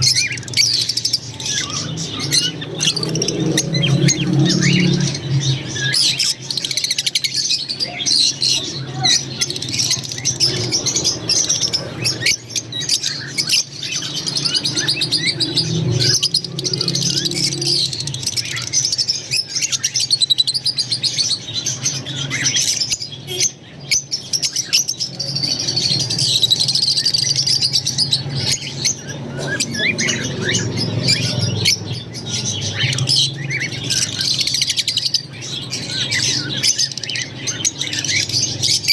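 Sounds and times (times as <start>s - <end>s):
lovebirds chattering and chirping: 0.0s - 38.9s.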